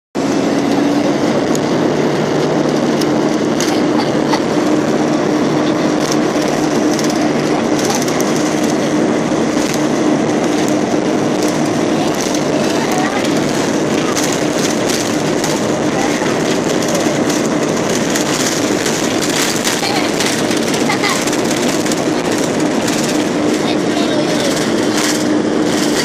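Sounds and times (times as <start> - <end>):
airliner cabin engine drone: 0.2 - 26.0.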